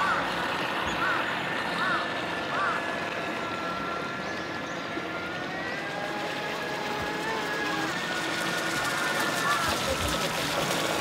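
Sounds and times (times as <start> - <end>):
high motor whine: 0.0 - 11.0.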